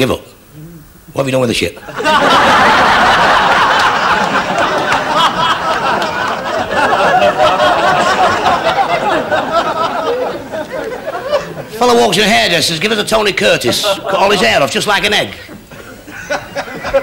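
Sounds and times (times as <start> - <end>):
audience laughing loudly: 1.8 - 12.6, 13.3 - 17.0.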